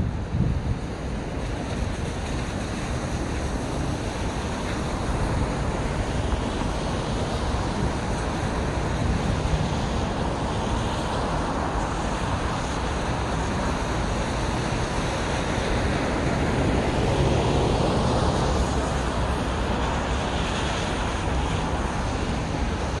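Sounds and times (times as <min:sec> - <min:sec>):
city traffic noise: 0:00.0 - 0:23.0.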